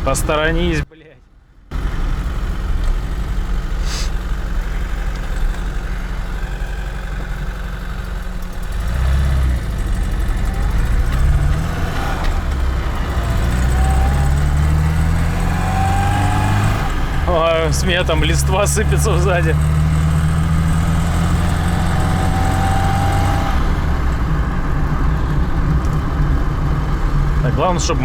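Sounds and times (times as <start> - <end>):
car engine accelerating: 1.7 - 28.0.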